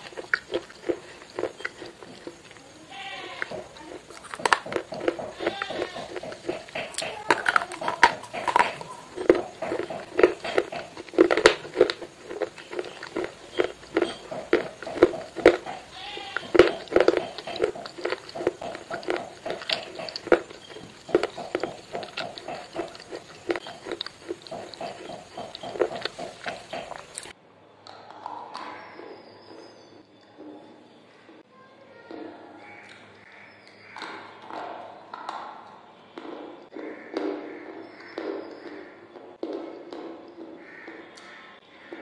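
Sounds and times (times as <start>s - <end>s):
crunchy chewing of hard food: 0.0s - 31.4s, 32.1s - 42.0s.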